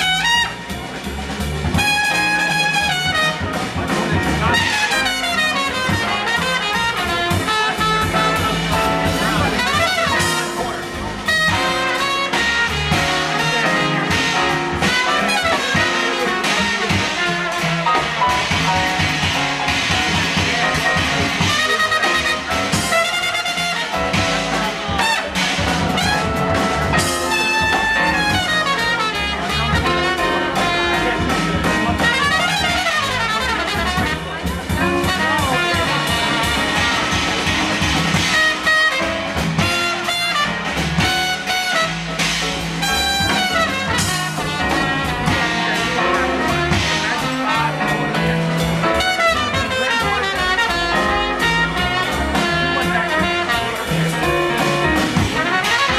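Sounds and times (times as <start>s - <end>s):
acoustic bass: 0.0s - 55.9s
drum kit: 0.0s - 55.9s
horn playing melody: 0.0s - 55.9s
piano: 0.0s - 55.9s.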